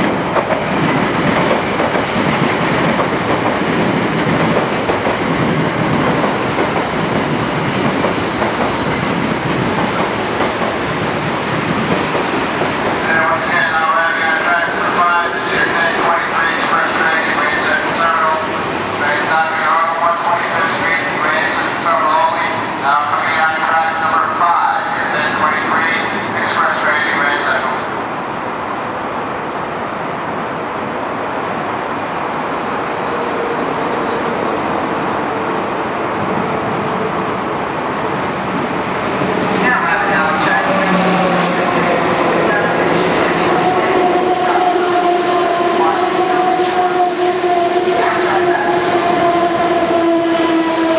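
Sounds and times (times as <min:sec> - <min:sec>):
train wheel and rail noise: 0:00.0 - 0:50.9.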